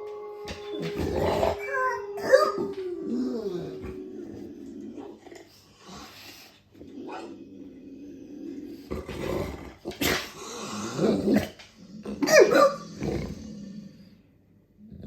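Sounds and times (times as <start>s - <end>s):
dog growling: 0.8s - 14.2s.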